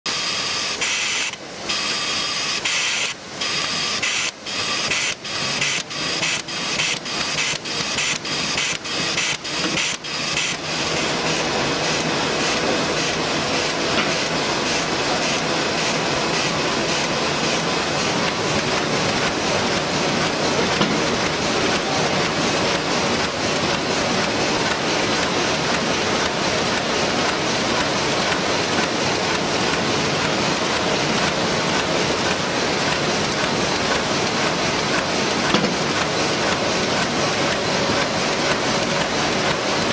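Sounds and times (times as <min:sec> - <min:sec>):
printing press rhythmic hissing: 0:00.1 - 0:39.9.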